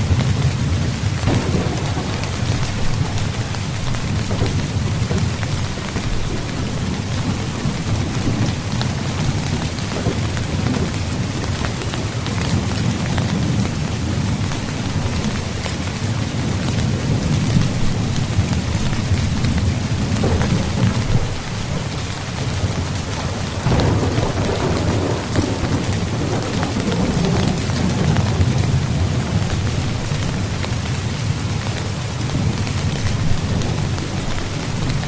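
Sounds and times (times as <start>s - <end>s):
low rumble of thunder: 0.0s - 35.0s
rain drumming on tent fabric: 0.0s - 35.0s.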